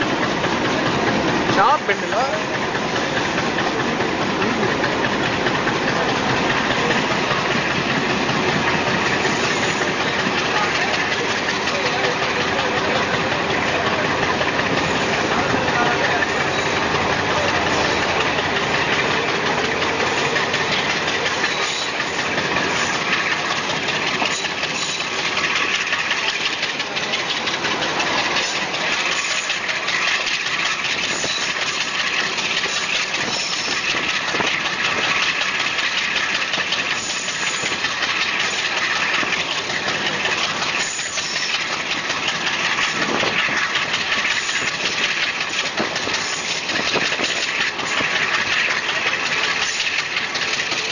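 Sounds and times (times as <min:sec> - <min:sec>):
diesel locomotive chugging: 0:00.0 - 0:50.9
wheels rumbling on rails: 0:00.0 - 0:50.9.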